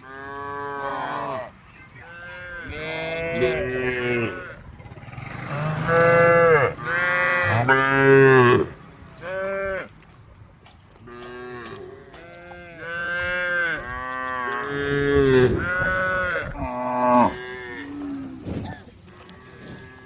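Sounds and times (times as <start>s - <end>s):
cows mooing: 2.3s - 10.0s, 11.0s - 20.0s.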